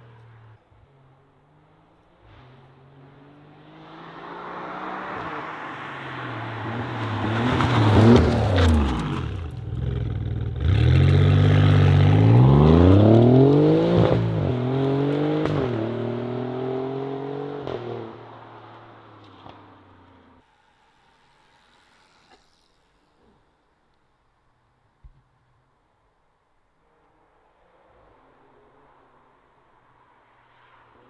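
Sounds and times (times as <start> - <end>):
car engine passing and accelerating: 0.0 - 23.4, 26.8 - 31.0.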